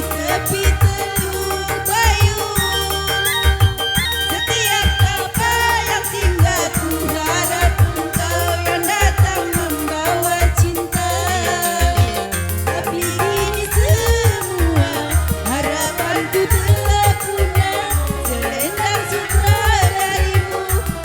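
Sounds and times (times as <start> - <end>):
live keyboard band music: 0.0 - 21.0.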